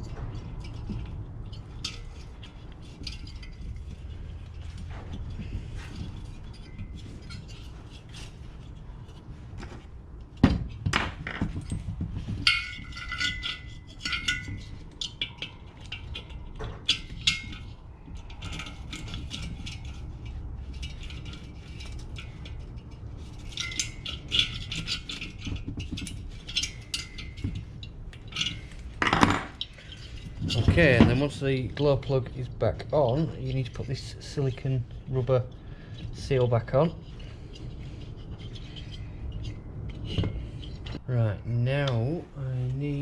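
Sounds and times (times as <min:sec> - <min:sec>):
metal tools clinking: 0:00.0 - 0:41.0.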